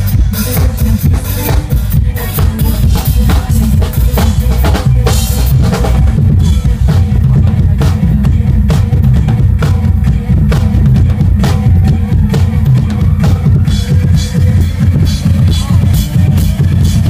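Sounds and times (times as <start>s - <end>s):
drum kit playing: 0.0s - 17.0s
heavy bass line: 0.0s - 17.0s.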